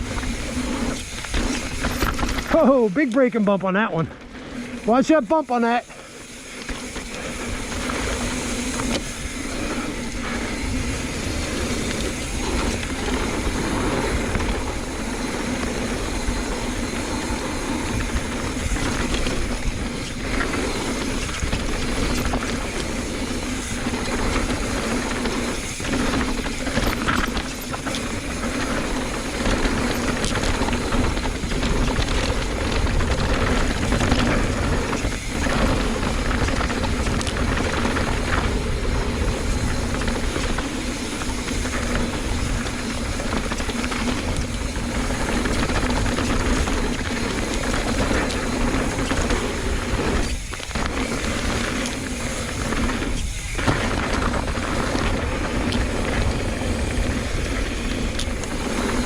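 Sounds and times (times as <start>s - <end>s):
wind rush on microphone: 0.0s - 3.0s, 3.9s - 59.0s
bike rattles and knocks: 0.0s - 59.0s.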